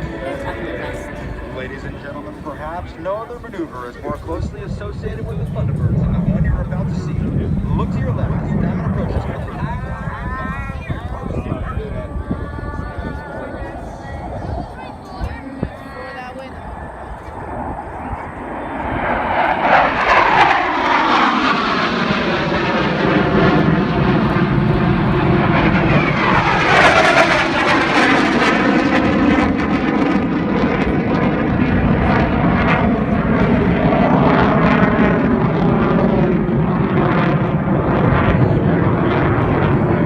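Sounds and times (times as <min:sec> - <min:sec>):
fighter jets flying past: 0:00.0 - 0:40.0.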